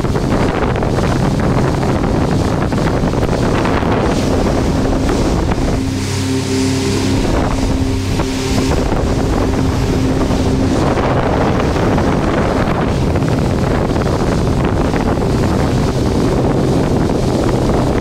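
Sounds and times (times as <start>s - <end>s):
boat engine drone: 0.0s - 18.0s
water rushing along hull: 0.0s - 18.0s
wind buffeting microphone: 0.0s - 18.0s.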